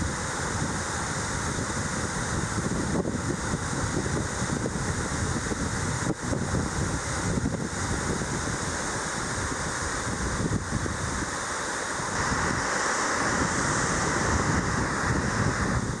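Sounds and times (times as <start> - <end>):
water rushing by the sea: 0.0 - 16.0
wind on microphone: 0.0 - 16.0.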